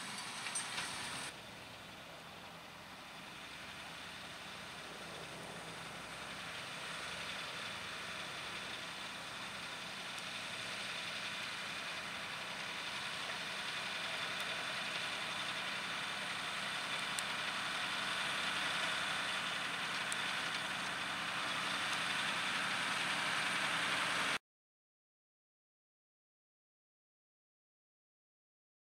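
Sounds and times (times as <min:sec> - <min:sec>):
tractor diesel engine under load: 0:00.0 - 0:24.4.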